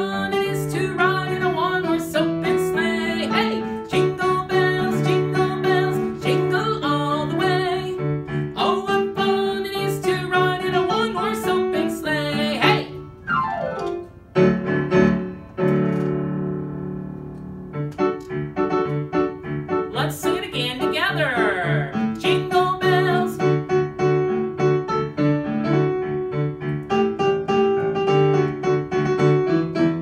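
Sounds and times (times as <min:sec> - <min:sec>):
piano playing christmas song: 0:00.0 - 0:30.0.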